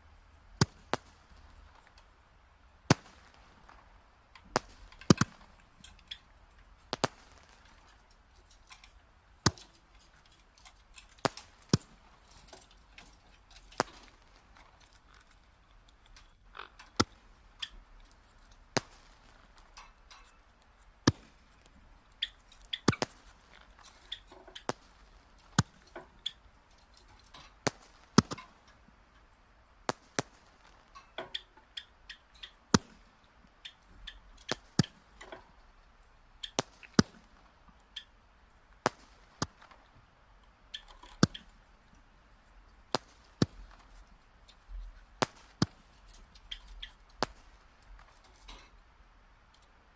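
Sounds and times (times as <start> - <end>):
firewood crackling and popping: 0.0 - 49.9.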